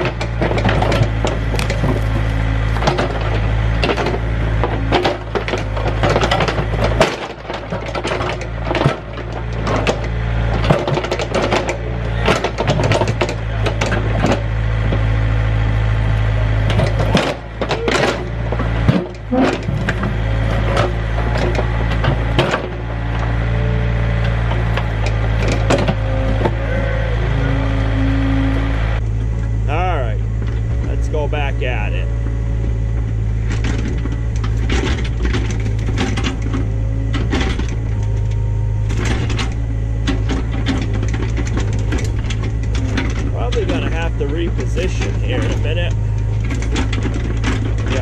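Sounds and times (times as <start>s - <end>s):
sharp cracks and knocks: 0.0s - 26.6s, 32.2s - 48.0s
machine engine humming: 0.0s - 48.0s.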